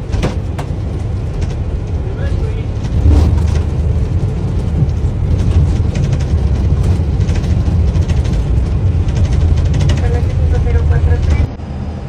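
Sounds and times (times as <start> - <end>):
airliner wheels rumbling on runway: 0.0 - 12.0.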